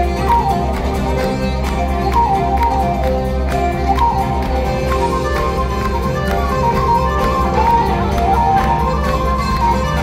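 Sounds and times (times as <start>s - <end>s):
accordion melody: 0.0s - 10.0s
bass guitar: 0.0s - 10.0s
electric guitar: 0.0s - 10.0s.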